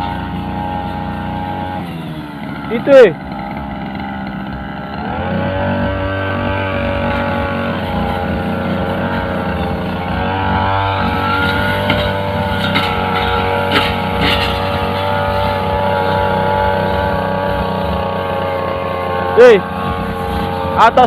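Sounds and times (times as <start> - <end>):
brushcutter running: 0.0 - 21.0.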